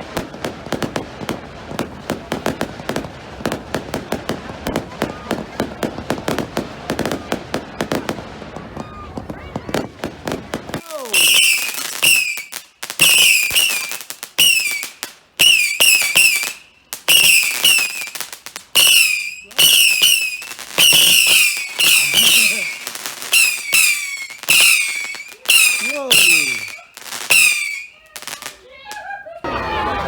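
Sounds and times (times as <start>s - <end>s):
fireworks cracking: 0.0s - 30.0s
fireworks whistling: 0.0s - 30.0s.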